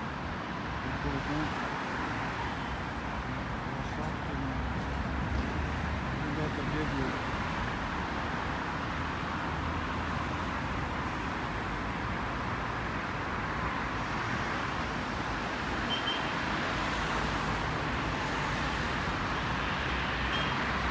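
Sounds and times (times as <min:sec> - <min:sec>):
city road traffic: 0:00.0 - 0:20.9.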